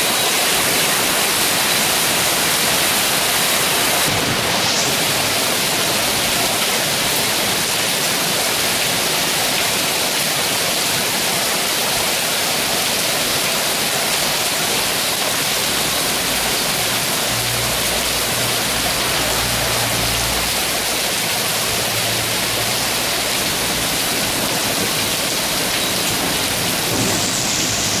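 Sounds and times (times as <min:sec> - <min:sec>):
hail and heavy rain: 0:00.0 - 0:28.0.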